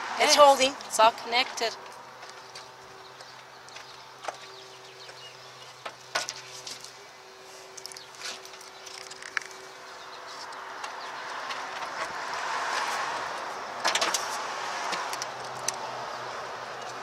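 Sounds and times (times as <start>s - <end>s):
vehicle passing road noise: 0.0s - 17.0s.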